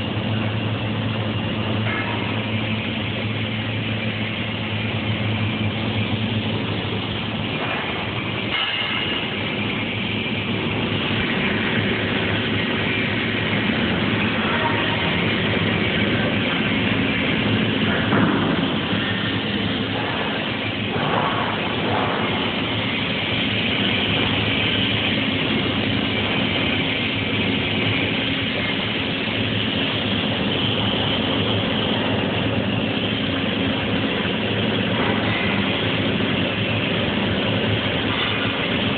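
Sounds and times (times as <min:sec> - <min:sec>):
low hum: 0:00.0 - 0:38.9
welding arc hissing: 0:00.0 - 0:38.9.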